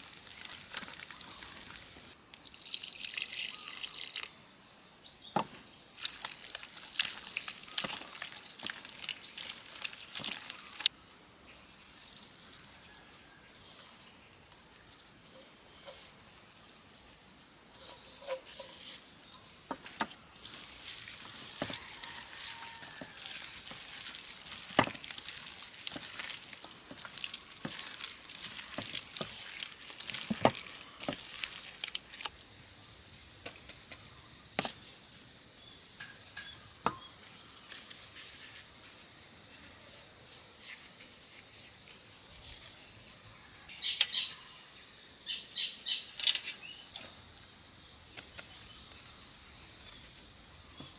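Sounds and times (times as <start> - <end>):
insects chirring: 0.0 - 50.9.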